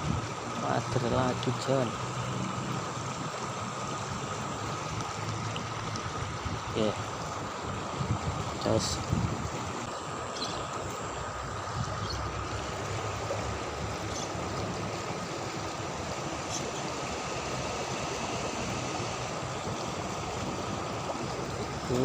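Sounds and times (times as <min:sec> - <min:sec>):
river water flowing: 0:00.0 - 0:22.0.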